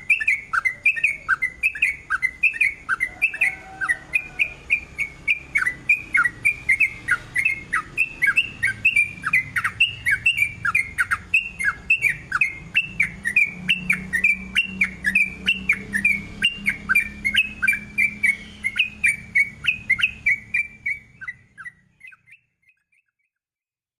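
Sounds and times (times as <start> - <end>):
bird singing chirping notes: 0.0 - 23.2.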